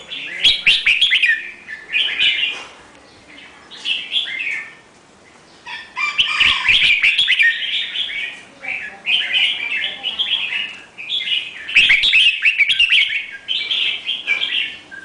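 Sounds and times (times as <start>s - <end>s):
songbird chirping and singing: 0.0s - 15.0s.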